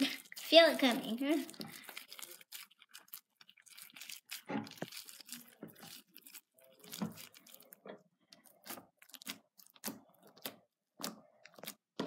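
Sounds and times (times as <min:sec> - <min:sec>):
slime squelching and crackling: 0:00.0 - 0:12.0.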